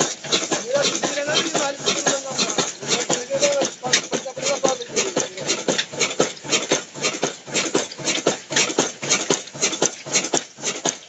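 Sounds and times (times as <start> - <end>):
stationary engine knocking: 0.0 - 11.0.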